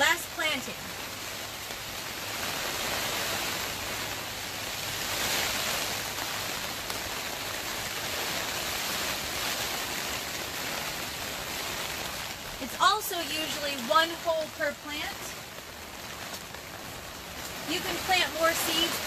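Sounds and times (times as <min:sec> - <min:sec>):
rain on plastic greenhouse cover: 0:00.0 - 0:19.0.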